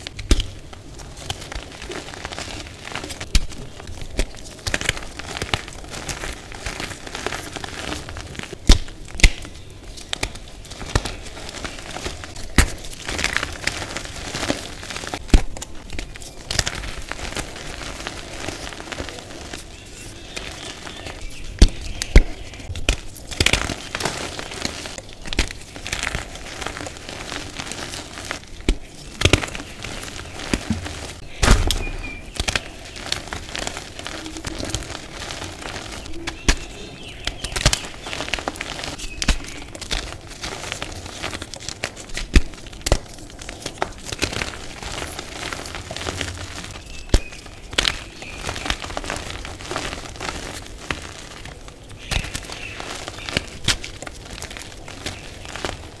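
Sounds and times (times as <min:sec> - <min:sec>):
chalk crunching and snapping: 0:00.0 - 0:56.0
powdery crumbling: 0:00.0 - 0:56.0.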